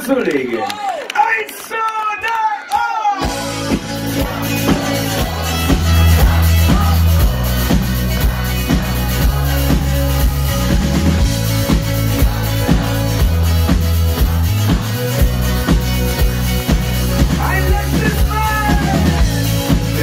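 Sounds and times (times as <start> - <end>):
electronic dance pop music: 3.0 - 20.0.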